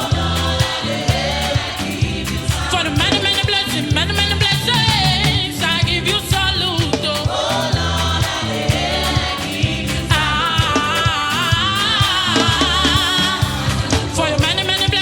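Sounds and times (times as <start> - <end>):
band with bass and drums: 0.0 - 15.0
gospel choir singing: 0.0 - 15.0.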